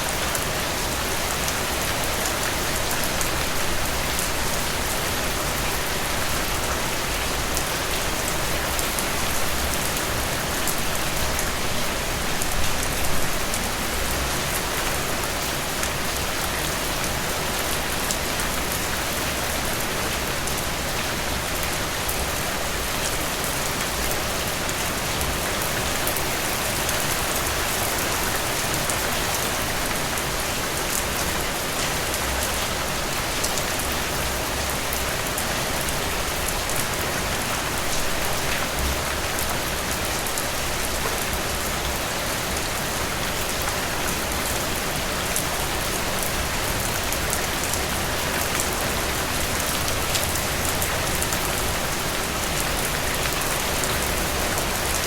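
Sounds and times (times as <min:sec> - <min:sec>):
rain falling through trees: 0:00.0 - 0:55.0.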